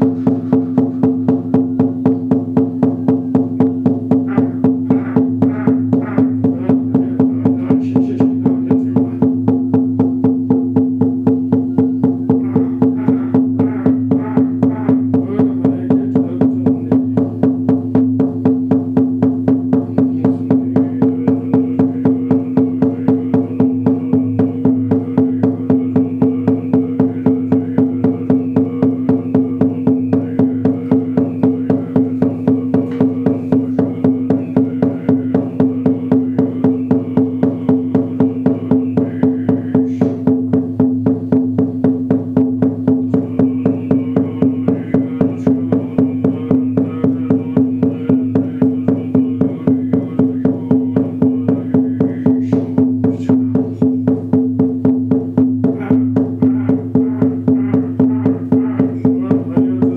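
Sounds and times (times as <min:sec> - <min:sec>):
frame drum beaten steadily: 0:00.0 - 0:59.9.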